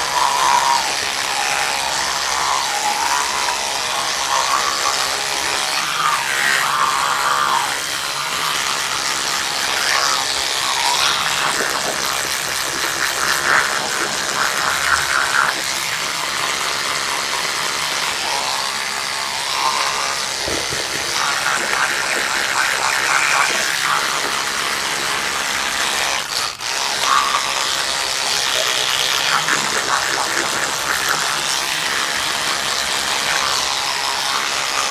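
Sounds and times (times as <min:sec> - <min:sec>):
electric toothbrush buzzing: 0:00.0 - 0:34.9.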